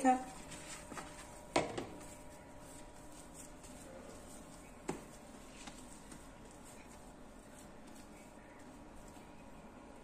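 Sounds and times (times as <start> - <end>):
hands handling dough: 0.0 - 10.0.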